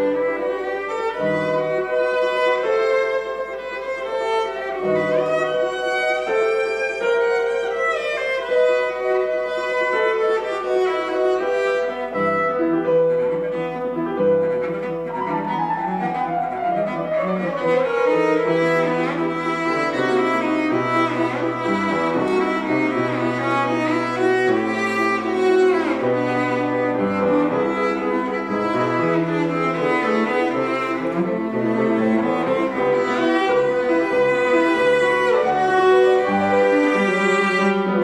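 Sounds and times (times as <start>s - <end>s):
cello: 0.0s - 38.0s
piano: 0.0s - 38.0s.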